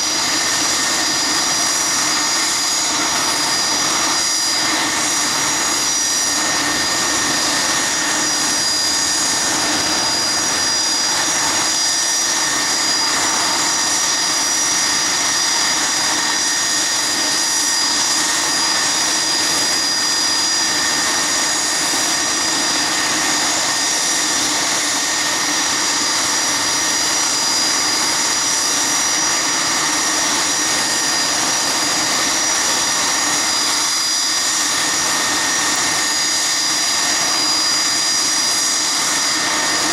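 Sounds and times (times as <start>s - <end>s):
jet engine idling whine: 0.0s - 39.9s.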